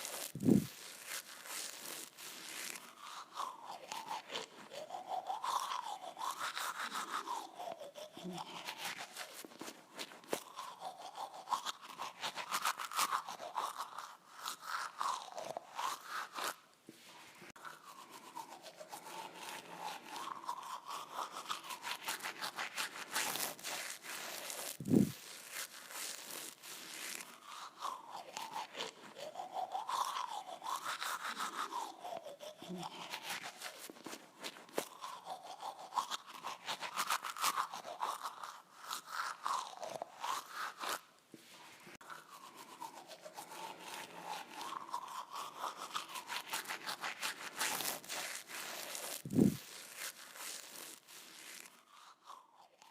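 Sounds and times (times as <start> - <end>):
toothbrush brushing teeth: 0.0 - 52.9.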